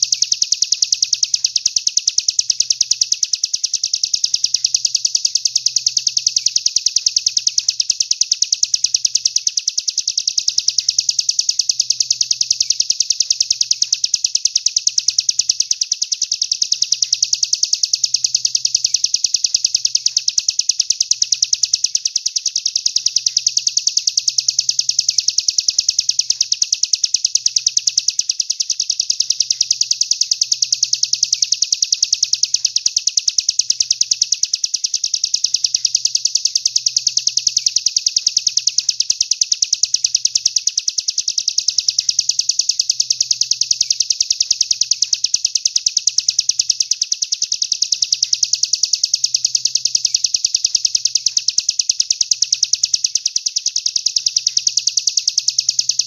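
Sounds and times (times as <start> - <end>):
songbird rapid trill: 0.0 - 56.0.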